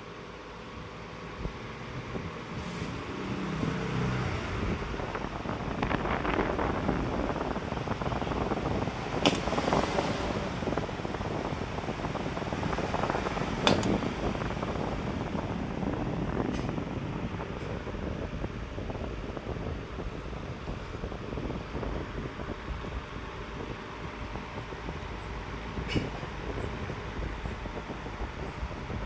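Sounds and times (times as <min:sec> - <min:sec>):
electric fan whoosh: 0:00.6 - 0:29.0.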